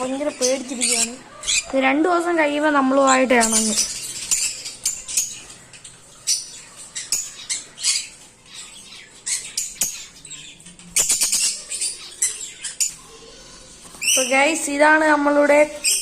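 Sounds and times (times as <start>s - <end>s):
conures chirping and squawking: 0.0s - 16.0s.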